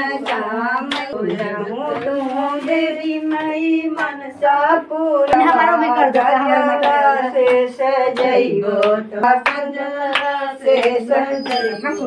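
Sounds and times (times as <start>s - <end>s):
hands clapping in steady beat: 0.0s - 12.0s
voices singing devotional song: 0.0s - 12.0s.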